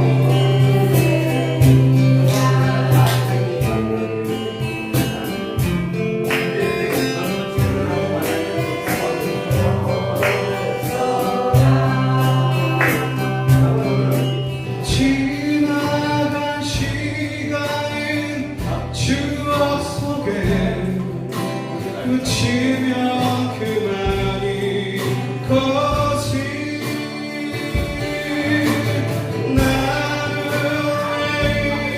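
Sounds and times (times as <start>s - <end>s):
acoustic guitars strumming: 0.0s - 31.9s
group of voices singing: 0.0s - 31.9s.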